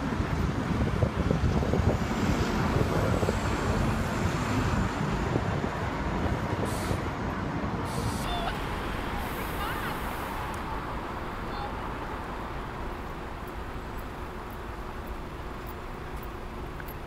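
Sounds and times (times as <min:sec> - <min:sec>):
vehicles passing close by: 0:00.0 - 0:17.0.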